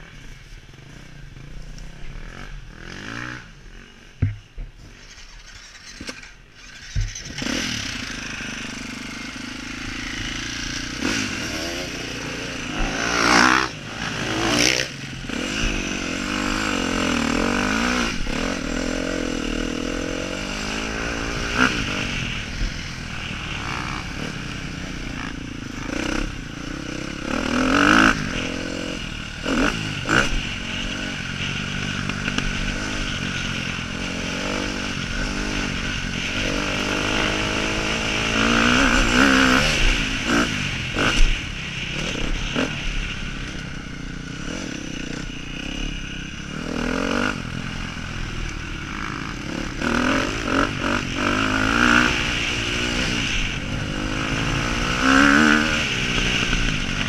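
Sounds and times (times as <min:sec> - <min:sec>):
motocross bike engine revving: 0:01.4 - 0:57.0.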